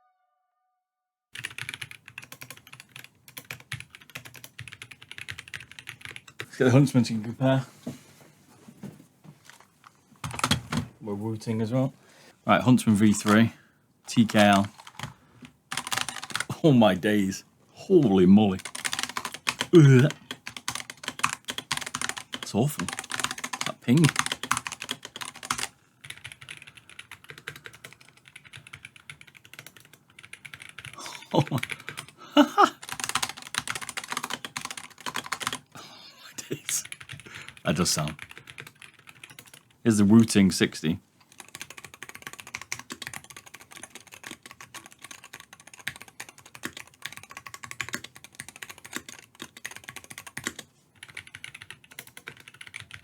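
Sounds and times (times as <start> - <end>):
fast keyboard typing: 1.4 - 6.8, 10.2 - 10.9, 13.0 - 13.5, 14.1 - 17.1, 18.0 - 35.8, 36.5 - 40.3, 41.3 - 53.0.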